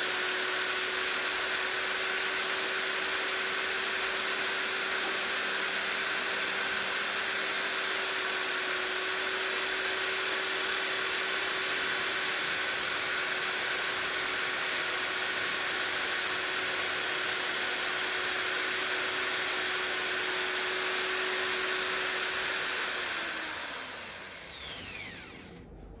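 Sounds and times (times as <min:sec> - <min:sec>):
power drill whining: 0:00.0 - 0:25.9.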